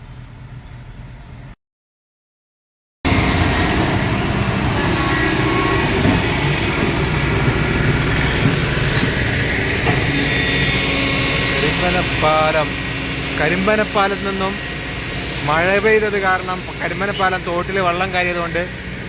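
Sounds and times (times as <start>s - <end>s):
heavy diesel engine noise: 3.1s - 19.0s.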